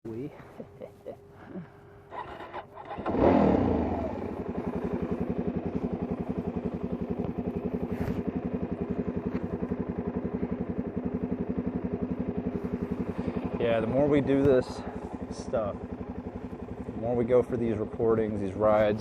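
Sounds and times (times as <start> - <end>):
motorcycle engine starting and idling: 1.3 - 19.0.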